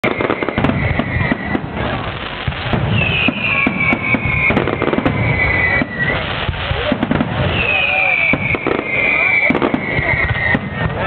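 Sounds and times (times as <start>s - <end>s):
firework whistle: 0.0s - 11.0s
fireworks bursting and crackling: 0.0s - 11.0s.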